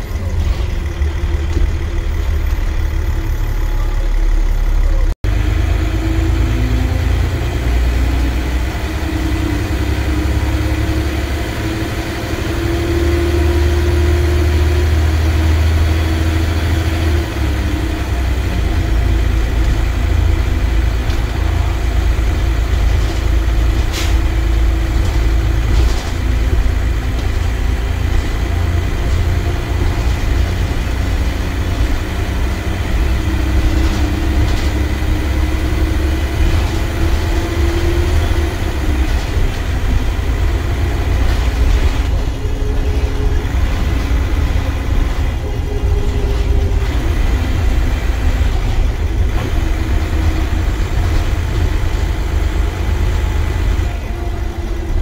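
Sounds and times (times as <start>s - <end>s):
bus engine and road rumble: 0.0s - 55.0s
engine whine: 0.0s - 55.0s.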